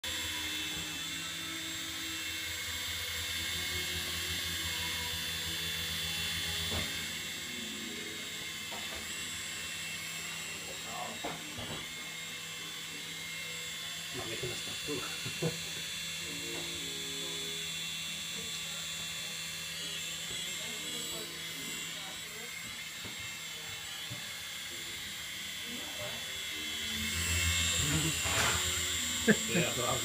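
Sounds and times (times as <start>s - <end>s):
toy helicopter motors whining: 0.0s - 30.0s
spinning rotor blades hum: 0.1s - 30.0s.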